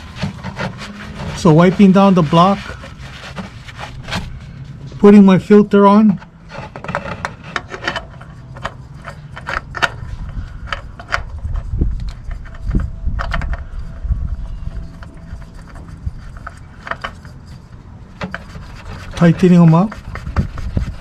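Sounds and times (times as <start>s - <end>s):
rubbing and scraping: 0.0s - 21.0s.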